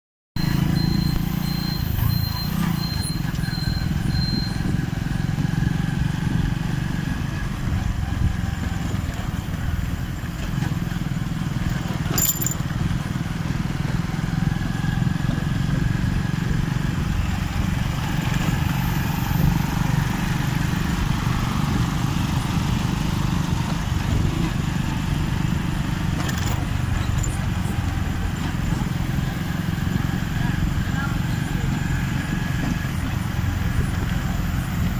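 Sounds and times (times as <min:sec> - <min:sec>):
low road rumble: 0:00.4 - 0:34.9
motorcycle engine running: 0:00.4 - 0:34.9.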